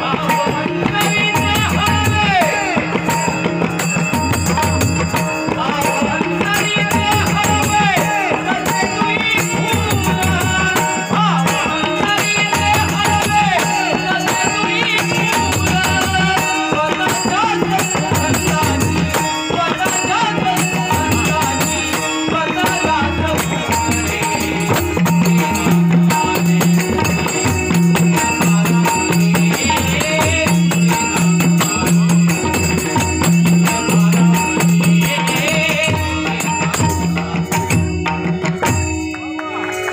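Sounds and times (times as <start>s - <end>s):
barrel drum and tabla beating: 0.0s - 39.9s
harmonium sustained notes: 0.0s - 39.9s
hand cymbals jingling: 0.3s - 39.9s.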